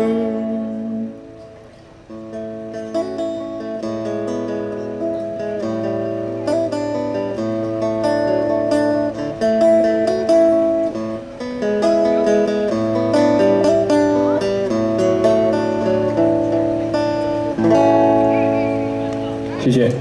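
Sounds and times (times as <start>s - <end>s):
guitar strumming chords: 0.0s - 20.0s.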